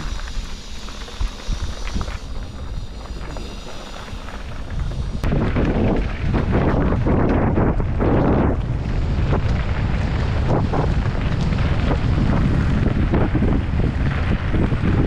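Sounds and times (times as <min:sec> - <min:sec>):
bike tyres rolling on dirt: 0:00.0 - 0:15.0
wind buffeting microphone: 0:00.0 - 0:15.0.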